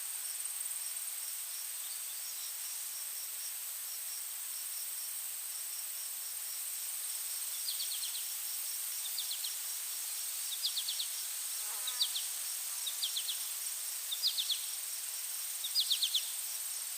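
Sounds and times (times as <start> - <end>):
high-pitched insect trill: 0.2 - 16.9.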